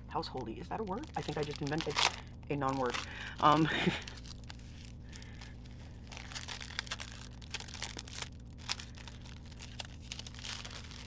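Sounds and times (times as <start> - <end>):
low steady hum: 0.0 - 11.0
plastic sleeve crinkling: 0.4 - 11.0.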